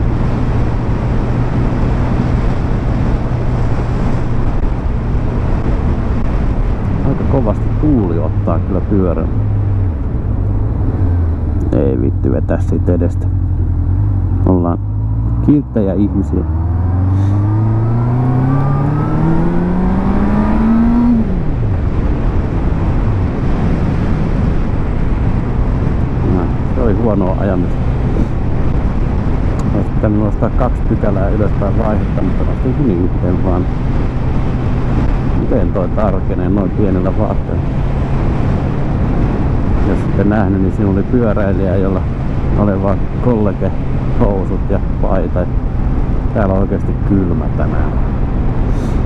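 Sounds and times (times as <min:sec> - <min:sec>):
motorcycle engine cruising: 0:00.0 - 0:49.0
wind rush on microphone: 0:00.0 - 0:49.0.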